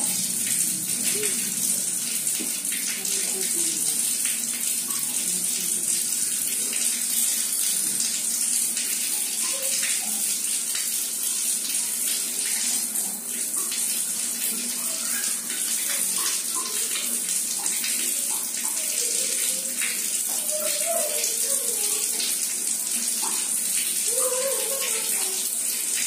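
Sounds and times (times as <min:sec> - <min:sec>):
tap water splashing on tiles: 0:00.0 - 0:26.0.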